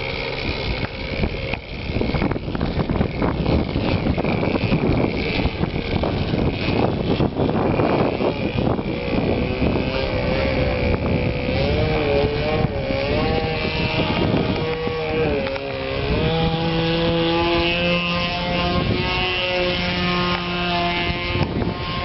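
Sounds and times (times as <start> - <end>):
model airplane engine buzzing: 0.0 - 22.0
wind buffeting on microphone: 0.0 - 22.0.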